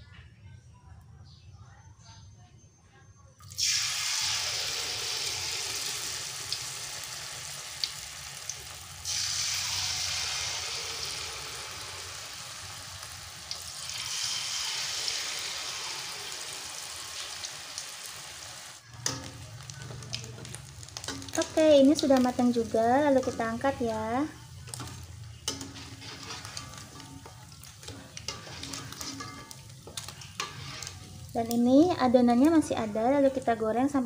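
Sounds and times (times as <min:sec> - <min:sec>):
batter sizzling in hot oil: 0:03.4 - 0:34.0.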